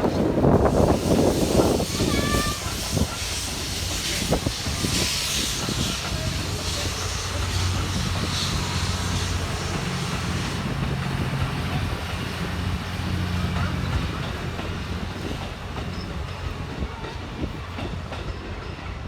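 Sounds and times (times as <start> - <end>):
steam locomotive puffing: 0.0 - 19.0
train rumbling: 0.0 - 19.0.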